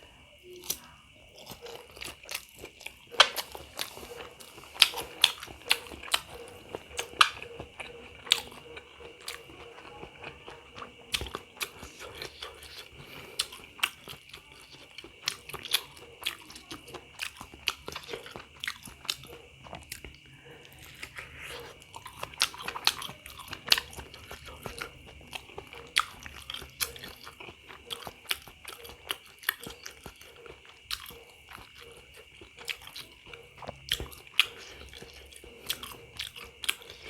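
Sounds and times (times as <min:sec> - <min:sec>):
chewing and biting: 0:00.5 - 0:37.0
mouth clicks and smacks: 0:01.4 - 0:37.0.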